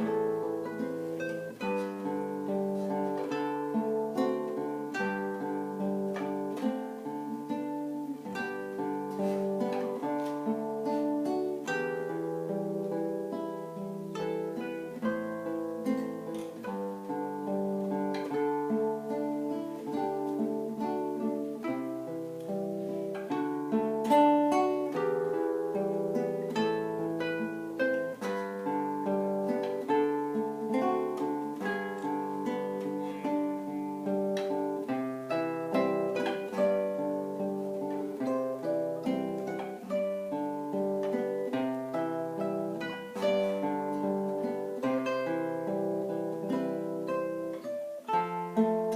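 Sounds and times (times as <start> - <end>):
solo acoustic guitar: 0.0 - 48.9.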